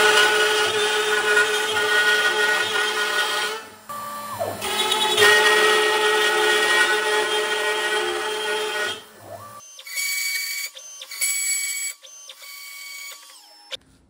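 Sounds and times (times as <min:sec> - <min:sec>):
router milling board: 0:00.0 - 0:13.8.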